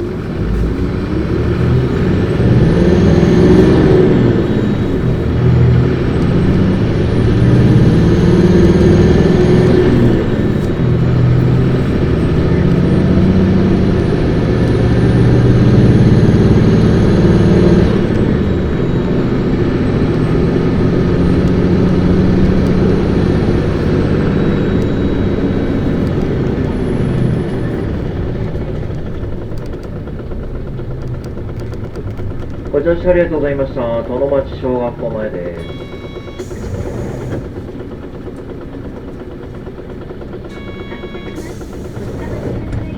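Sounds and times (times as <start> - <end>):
bus diesel engine pulling hard: 0.0 - 42.9.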